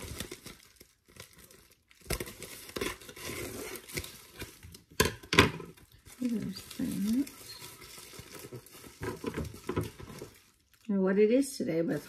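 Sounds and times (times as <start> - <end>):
packaging crinkling and tearing: 0.0 - 10.9.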